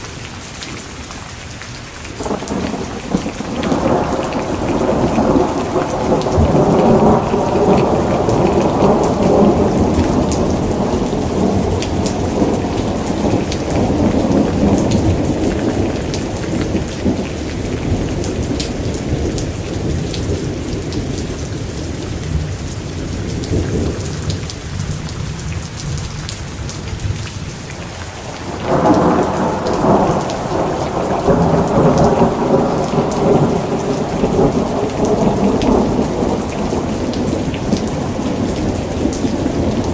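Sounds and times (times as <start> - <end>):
steady rain: 0.0 - 39.9
rolling thunder: 2.2 - 25.0, 28.2 - 39.9.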